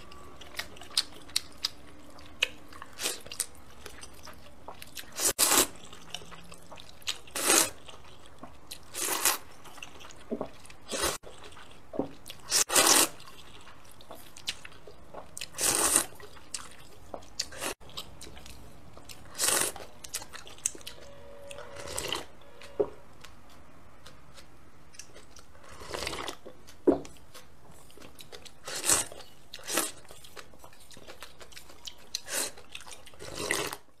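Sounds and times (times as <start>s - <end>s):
person chewing: 0.0s - 21.1s, 21.7s - 33.9s.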